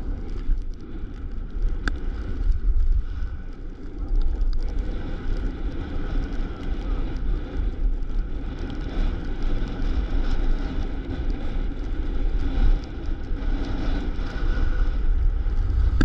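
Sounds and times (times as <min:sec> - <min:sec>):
skis sliding on snow: 0:00.0 - 0:16.0
wind buffeting microphone: 0:00.0 - 0:16.0.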